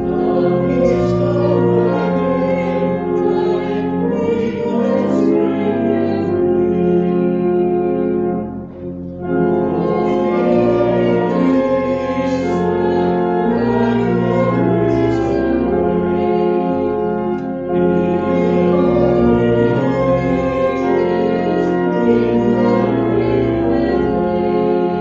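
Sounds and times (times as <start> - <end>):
church organ playing chords: 0.0 - 25.0
voices singing a hymn: 0.0 - 25.0.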